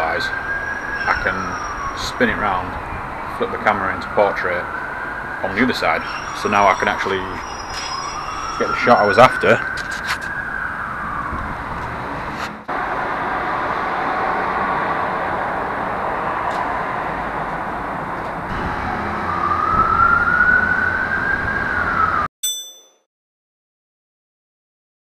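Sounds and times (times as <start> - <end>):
city noise: 0.0 - 22.3
emergency siren wailing: 0.0 - 22.3.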